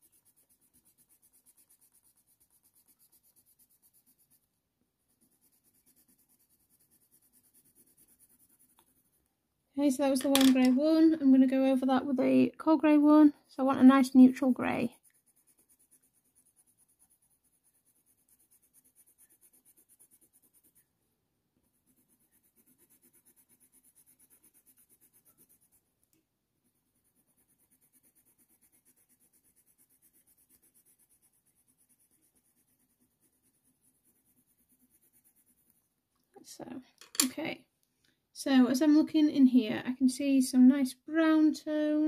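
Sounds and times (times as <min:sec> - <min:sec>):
pencil scratching on paper: 0:00.0 - 0:21.0, 0:21.6 - 0:36.0.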